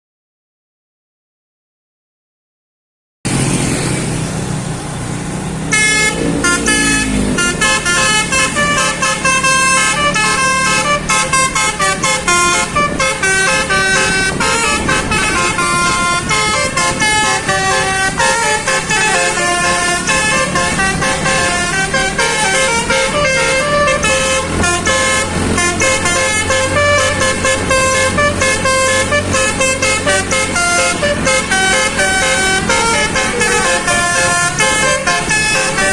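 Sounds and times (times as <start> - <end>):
low engine rumble: 3.3 - 35.9
musical bus horn melody: 5.7 - 35.9.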